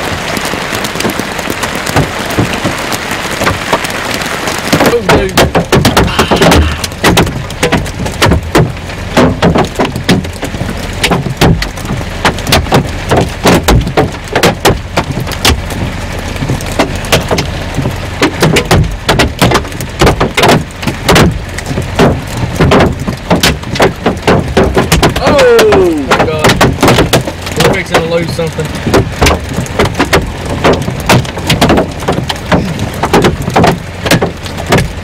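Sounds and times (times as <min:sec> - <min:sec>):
hailstones hitting a vehicle: 0:00.0 - 0:35.0
low storm rumble: 0:00.0 - 0:35.0.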